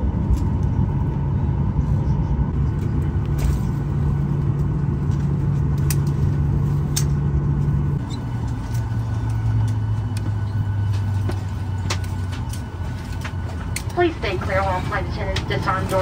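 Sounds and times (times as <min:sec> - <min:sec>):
aircraft engine hum in cabin: 0:00.0 - 0:16.0.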